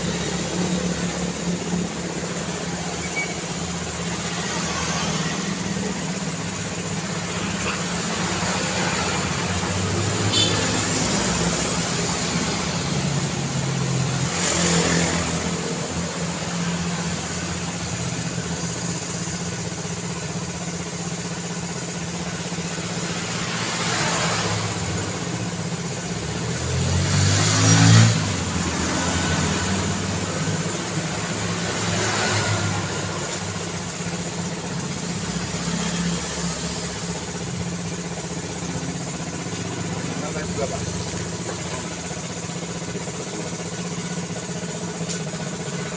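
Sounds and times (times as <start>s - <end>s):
loud vehicle passing: 0.0s - 19.1s, 22.3s - 45.7s
cars passing: 0.0s - 45.9s
steady engine hum: 0.0s - 45.9s.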